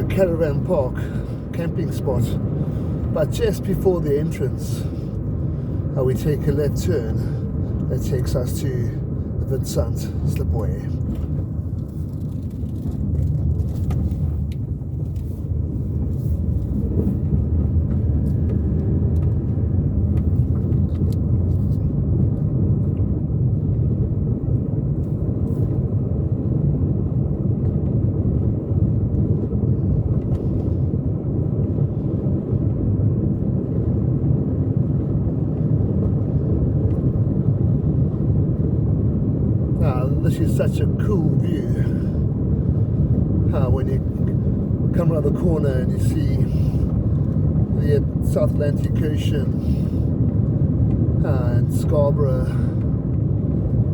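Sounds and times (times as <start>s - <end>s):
car interior road and engine rumble: 0.0s - 53.9s.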